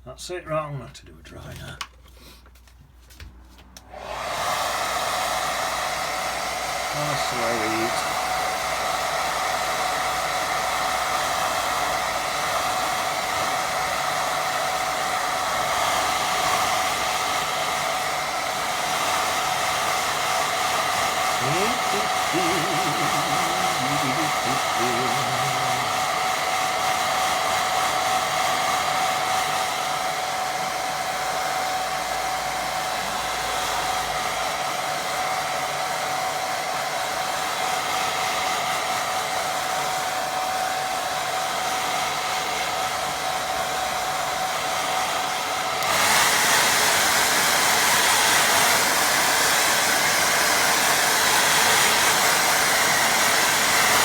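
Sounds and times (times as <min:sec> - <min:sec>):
hair dryer blowing with whine: 0:03.7 - 0:54.0.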